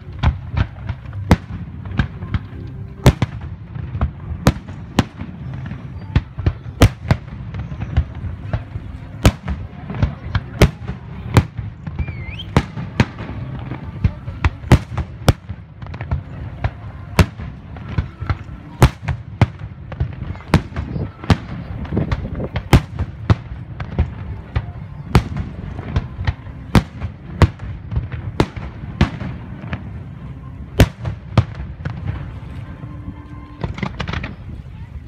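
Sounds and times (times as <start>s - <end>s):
fireworks pops and crackles: 0.0s - 30.0s, 30.8s - 32.8s, 33.4s - 34.8s
fireworks bangs: 0.0s - 32.9s, 33.6s - 34.6s.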